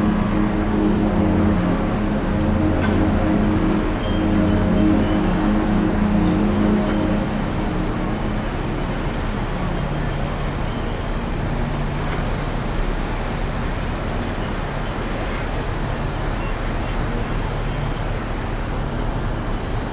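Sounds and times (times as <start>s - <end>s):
ship rumble and rushing: 0.0s - 19.8s.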